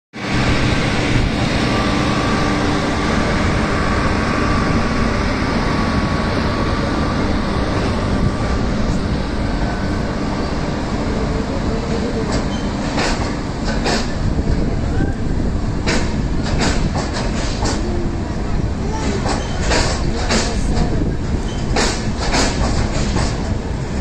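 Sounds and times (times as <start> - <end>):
train coaches rumbling past: 0.2 - 24.0.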